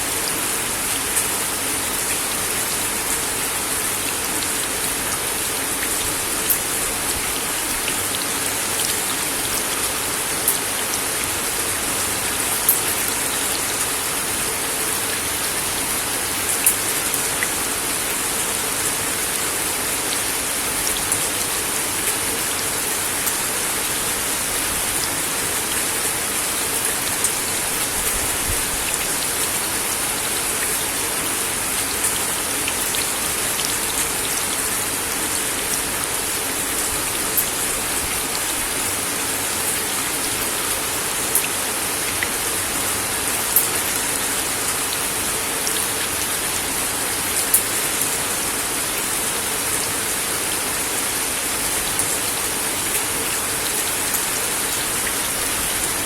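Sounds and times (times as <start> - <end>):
rain hissing on wooden deck: 0.0 - 56.0.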